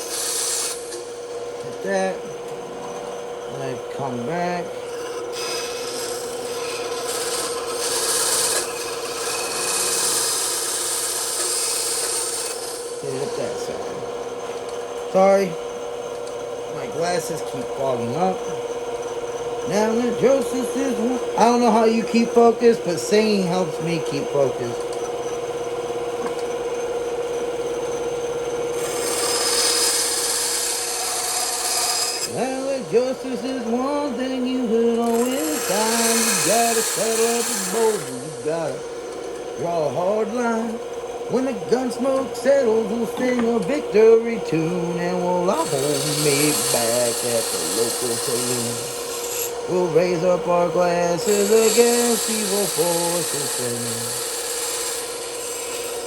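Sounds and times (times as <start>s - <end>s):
saw blade cutting wood: 0.0s - 2.2s, 3.6s - 14.0s, 16.8s - 18.6s, 19.7s - 25.1s, 28.7s - 56.0s
bandsaw running hum: 0.0s - 56.0s.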